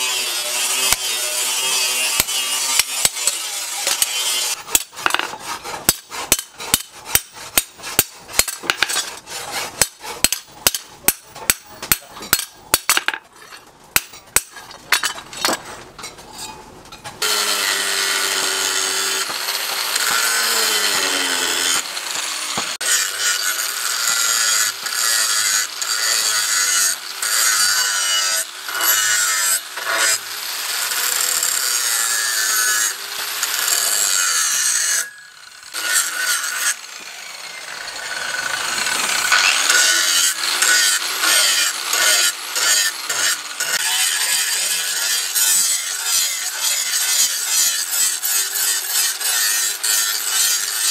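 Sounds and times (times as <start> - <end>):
angle grinder grinding steel: 0.0 - 15.6, 16.3 - 50.9.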